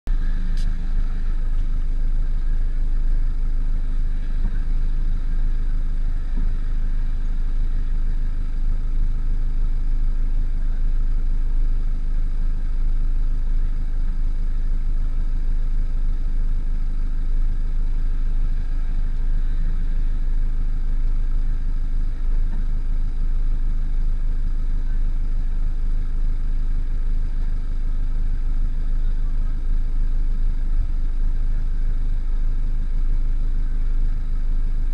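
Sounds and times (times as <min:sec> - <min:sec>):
car exhaust idling: 0:00.0 - 0:34.9.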